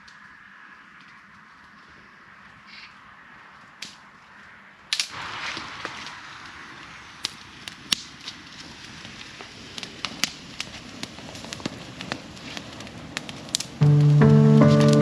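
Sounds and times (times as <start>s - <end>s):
bonfire crackling and popping: 0.0s - 15.0s
low rush of flames: 0.0s - 15.0s.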